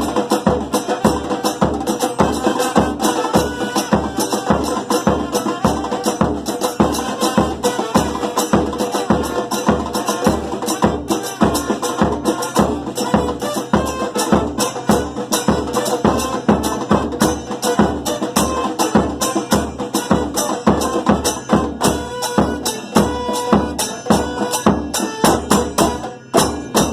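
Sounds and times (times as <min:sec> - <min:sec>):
hand percussion: 0:00.0 - 0:26.9
low bass drum beats: 0:00.0 - 0:26.9.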